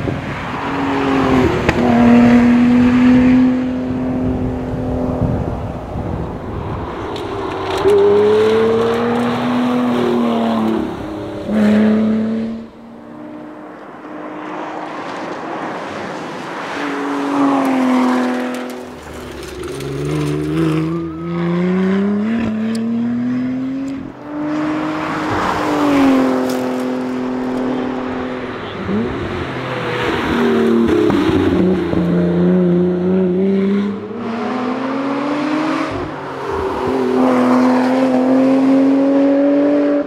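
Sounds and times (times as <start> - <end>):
car engine at full throttle: 0.0 - 40.0.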